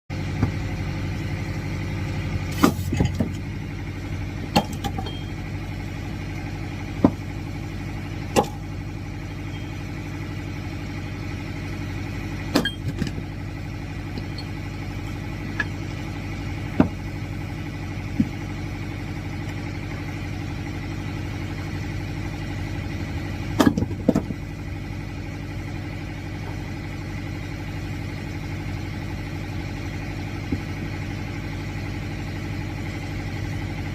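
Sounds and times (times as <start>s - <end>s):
engine running: 0.1s - 33.9s.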